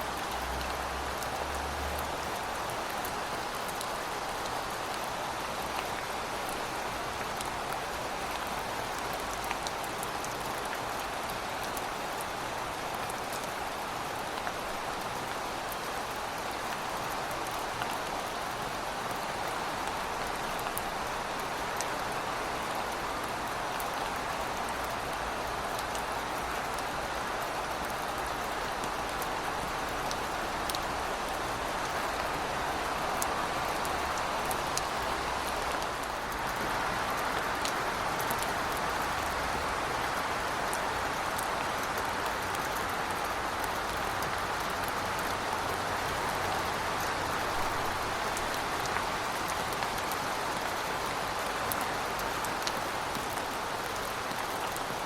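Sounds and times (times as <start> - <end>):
heavy rain on hard surfaces: 0.0 - 55.0.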